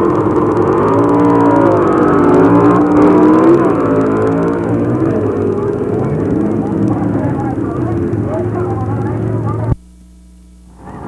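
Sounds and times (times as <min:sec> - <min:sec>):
drag racing engines accelerating: 0:00.0 - 0:09.8.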